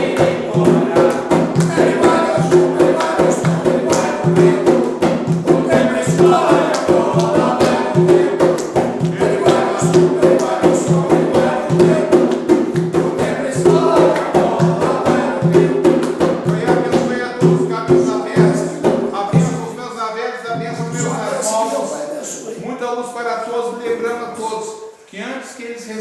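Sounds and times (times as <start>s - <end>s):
voices chanting together: 0.0s - 19.8s, 20.5s - 22.7s
fast percussion rhythm: 0.0s - 19.9s, 20.5s - 21.9s.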